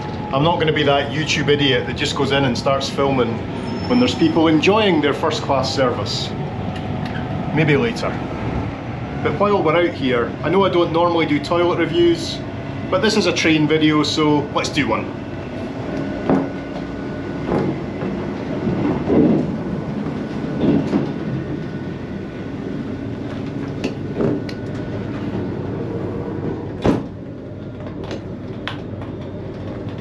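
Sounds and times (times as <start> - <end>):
diesel train rumbling: 0.0 - 30.0.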